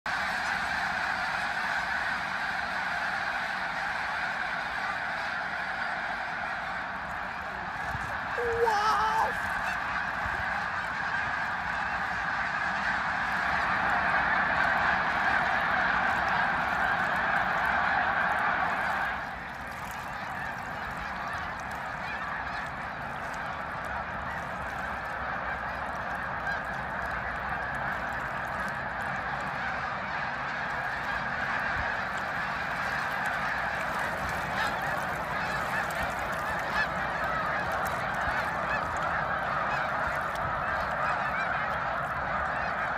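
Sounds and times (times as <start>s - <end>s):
flock of geese honking: 0.1s - 42.9s.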